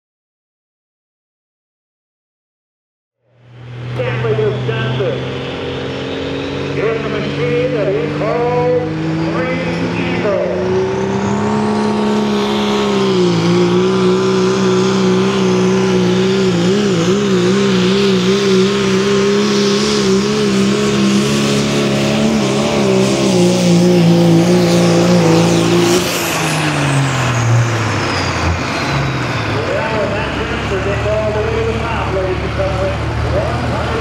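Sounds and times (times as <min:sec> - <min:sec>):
engine running at high revs: 0:03.2 - 0:34.0.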